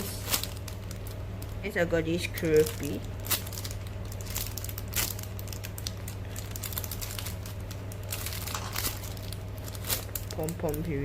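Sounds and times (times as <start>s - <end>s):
plastic crinkling and rustling: 0.0s - 11.0s
steady low hum: 0.0s - 11.0s.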